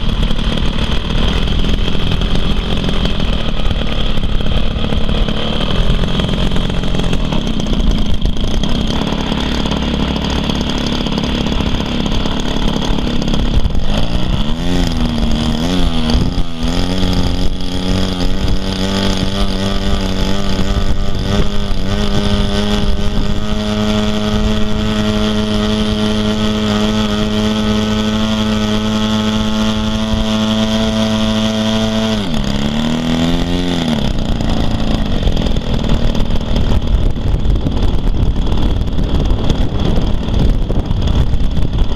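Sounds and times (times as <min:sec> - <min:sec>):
model aircraft engine revving: 0:00.0 - 0:41.9
steady rushing noise: 0:00.0 - 0:41.9.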